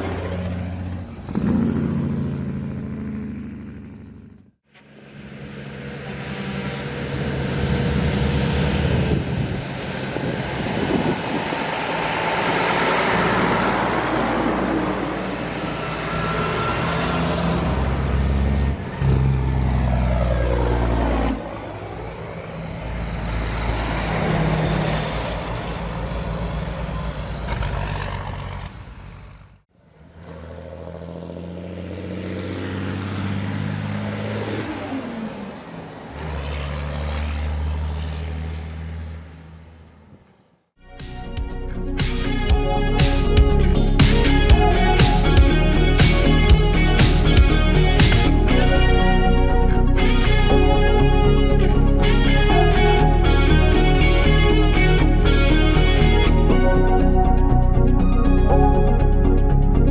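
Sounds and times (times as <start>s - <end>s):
heavy truck engines: 0.0s - 40.7s, 41.6s - 59.9s.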